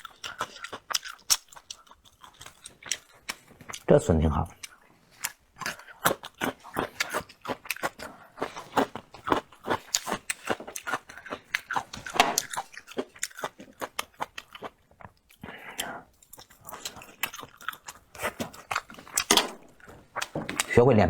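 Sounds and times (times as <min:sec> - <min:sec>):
person chewing crunchy food: 0:00.0 - 0:20.8.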